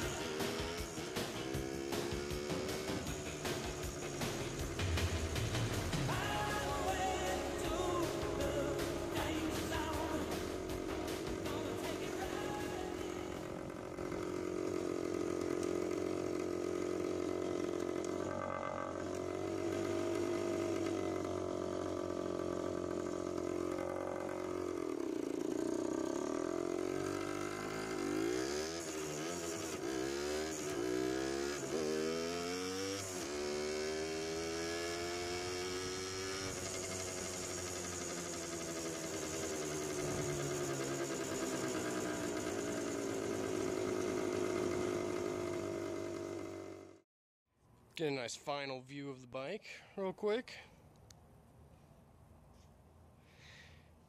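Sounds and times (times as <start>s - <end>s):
two-stroke motorcycle engine revving: 0.0s - 47.0s.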